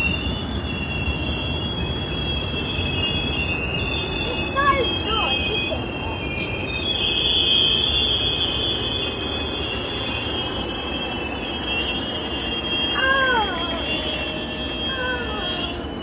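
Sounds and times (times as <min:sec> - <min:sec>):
high-pitched wheel squeal: 0:00.0 - 0:16.0
train rumbling on rails: 0:00.0 - 0:16.0.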